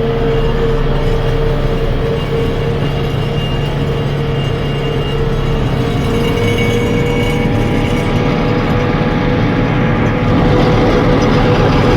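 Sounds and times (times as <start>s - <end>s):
mower running with whine: 0.0s - 11.9s.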